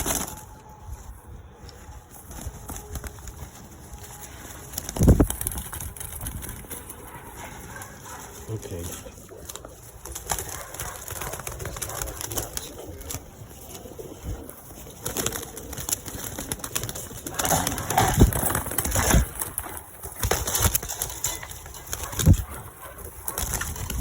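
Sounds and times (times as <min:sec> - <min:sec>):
pigeons cooing: 0:00.0 - 0:24.0
pigeons shuffling: 0:00.0 - 0:24.0.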